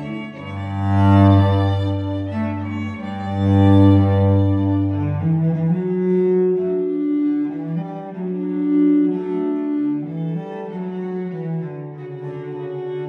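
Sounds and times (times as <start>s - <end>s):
cello bowed notes: 0.0s - 13.0s
fiddle playing: 0.0s - 13.0s.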